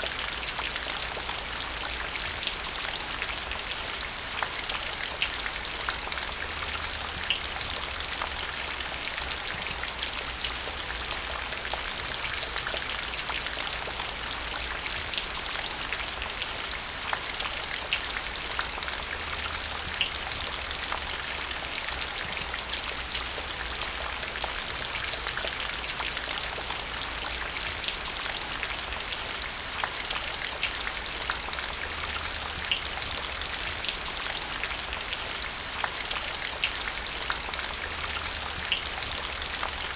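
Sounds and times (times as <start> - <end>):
rain falling into puddle: 0.0 - 39.9.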